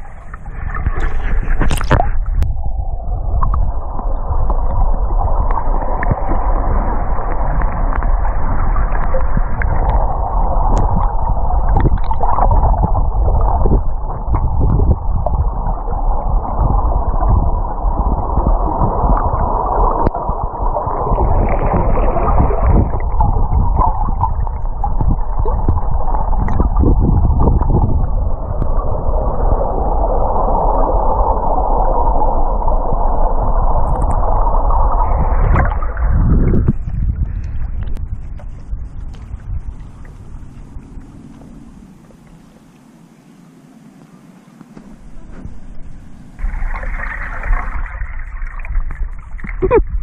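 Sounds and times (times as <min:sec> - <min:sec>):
underwater rumble and hiss: 0:00.0 - 0:50.0.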